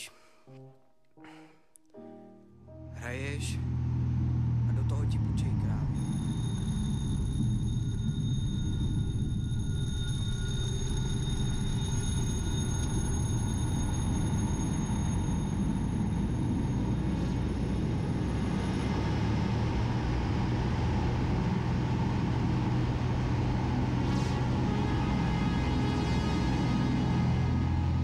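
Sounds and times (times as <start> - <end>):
propeller plane engine droning: 3.2 - 28.0.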